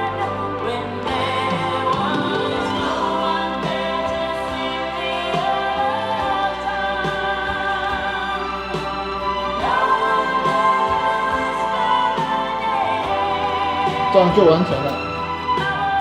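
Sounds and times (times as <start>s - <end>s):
choral music from a record: 0.0s - 16.0s.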